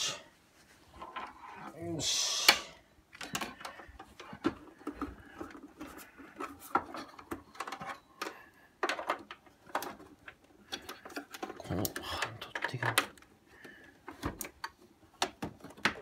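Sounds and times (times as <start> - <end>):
plastic clicks and knocks: 3.1 - 16.0.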